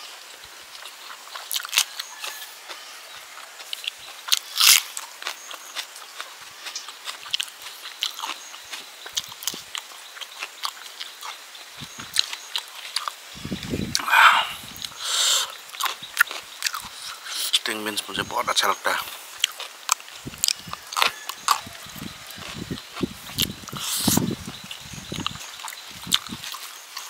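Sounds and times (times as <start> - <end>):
person chewing and crunching: 0.7 - 17.6, 18.8 - 27.0.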